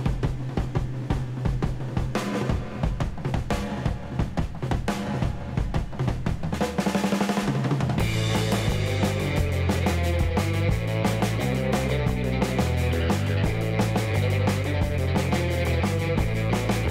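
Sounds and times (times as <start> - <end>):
drum roll: 0.0 - 16.9
jingle music led by drums: 0.0 - 16.9.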